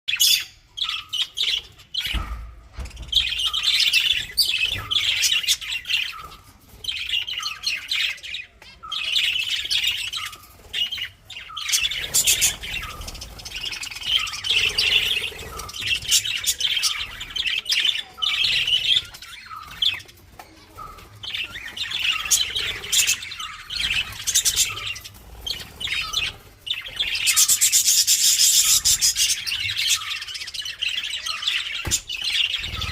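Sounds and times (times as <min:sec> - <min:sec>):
lovebirds chirping: 0:00.1 - 0:32.9.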